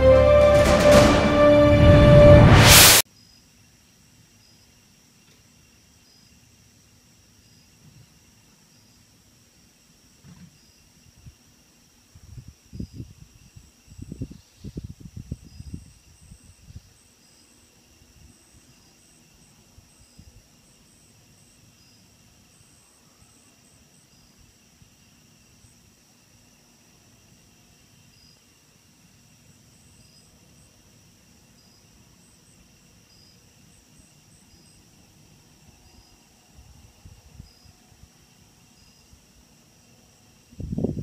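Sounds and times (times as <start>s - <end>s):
crickets and insects chirping: 3.1s - 41.0s.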